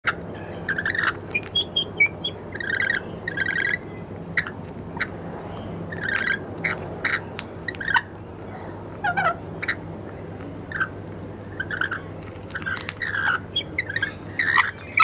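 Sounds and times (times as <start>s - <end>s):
lorikeets chirping: 0.3s - 9.8s, 10.6s - 15.0s.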